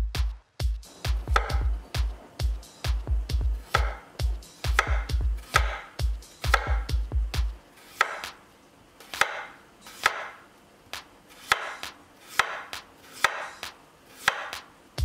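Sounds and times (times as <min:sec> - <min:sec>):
knife slicing potato on board: 0:01.0 - 0:08.4, 0:09.0 - 0:10.4, 0:11.0 - 0:14.8.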